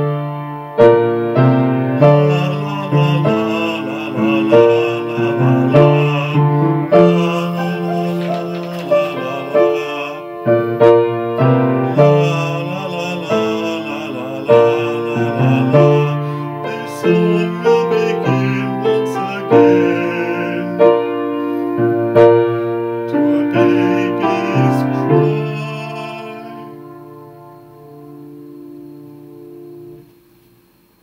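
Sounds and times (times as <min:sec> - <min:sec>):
piano chords: 0:00.0 - 0:30.8.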